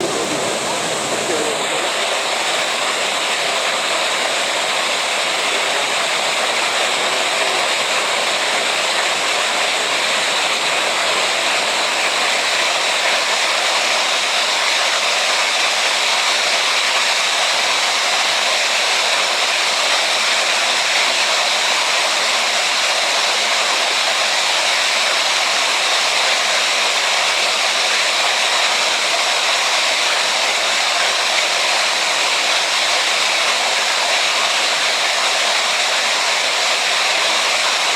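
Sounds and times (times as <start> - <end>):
falling water rushing: 0.0 - 37.9.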